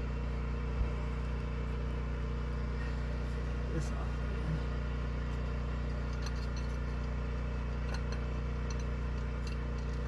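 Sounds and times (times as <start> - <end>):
engine idling low hum: 0.0 - 10.0.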